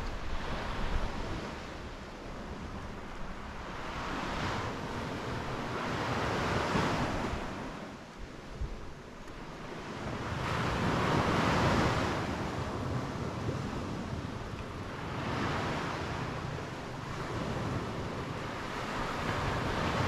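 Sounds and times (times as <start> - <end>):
waves breaking on beach: 0.0 - 20.0
wind rumbling on microphone: 0.0 - 20.0.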